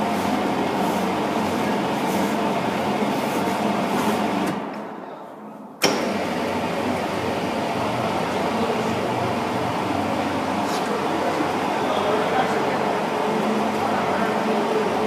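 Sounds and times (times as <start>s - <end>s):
dough mixer running: 0.0s - 4.6s, 5.9s - 15.0s.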